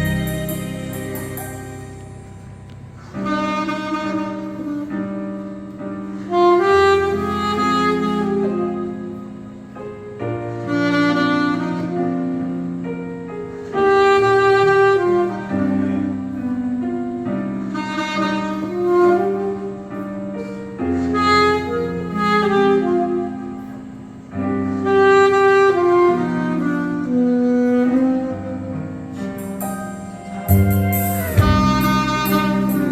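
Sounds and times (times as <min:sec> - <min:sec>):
piano and strings accompaniment: 0:00.0 - 0:32.9
saxophone melody: 0:00.0 - 0:32.9.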